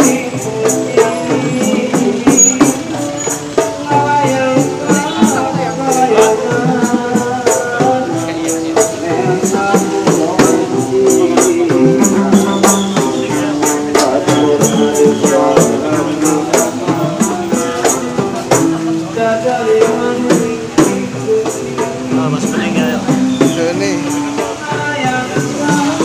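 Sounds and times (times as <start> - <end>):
sharp percussive beat: 0.0 - 26.0
street musicians melody: 0.0 - 26.0.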